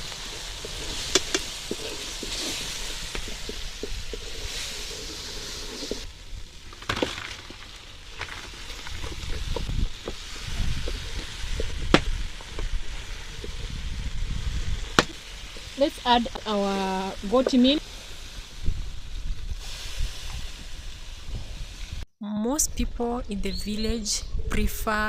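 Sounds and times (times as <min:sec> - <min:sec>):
vegetables sizzling in oil: 0:00.0 - 0:06.2, 0:07.9 - 0:22.0.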